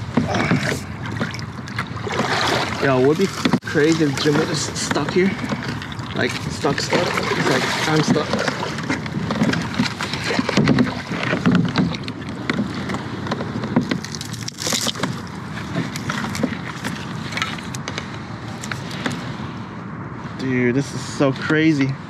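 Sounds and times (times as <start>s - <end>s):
reeds scraping along kayak hull: 0.0s - 19.8s
wind buffeting microphone: 0.0s - 21.2s.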